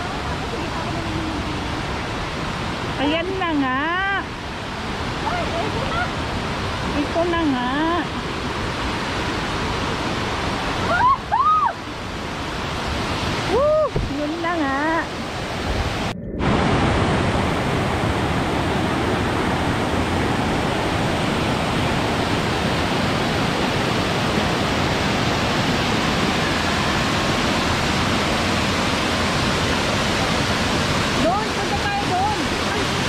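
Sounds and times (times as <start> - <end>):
waterfall rushing over rocks: 0.0 - 33.0.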